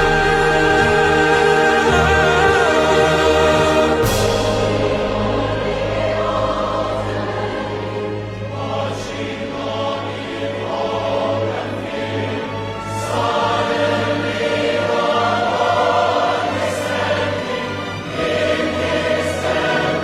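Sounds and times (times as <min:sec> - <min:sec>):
orchestra playing: 0:00.0 - 0:09.8, 0:12.0 - 0:20.0
choir singing: 0:00.0 - 0:20.0.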